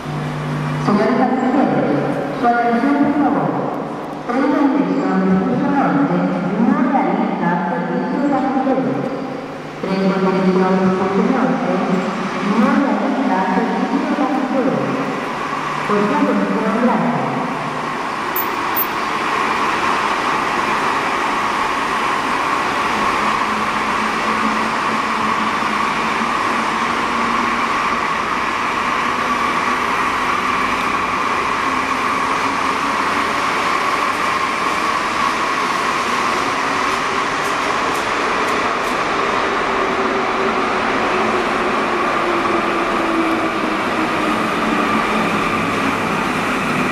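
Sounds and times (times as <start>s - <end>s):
train running hum and rush: 0.0s - 46.9s.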